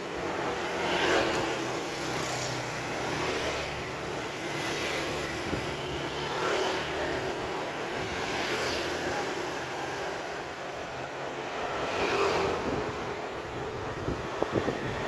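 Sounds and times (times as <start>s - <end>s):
vehicles passing with engine hum: 0.0s - 15.0s.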